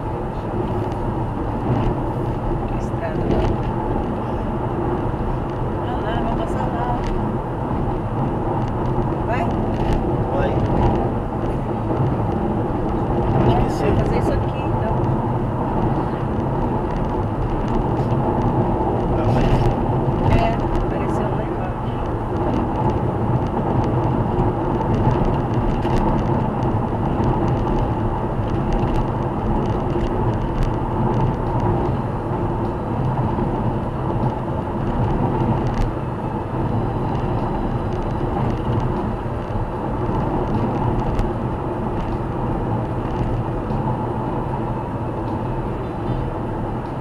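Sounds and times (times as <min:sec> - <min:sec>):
car tyre and engine noise: 0:00.0 - 0:47.0.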